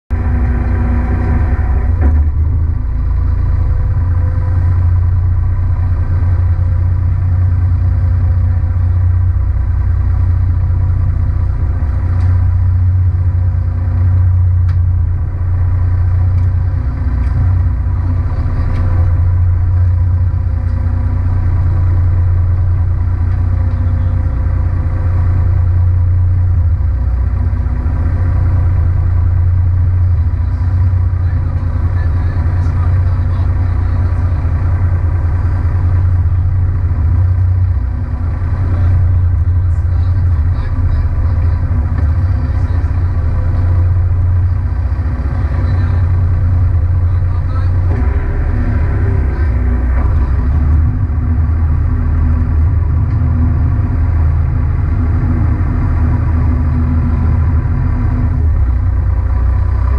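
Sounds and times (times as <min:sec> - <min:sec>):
boat engine droning: 0:00.1 - 0:59.9.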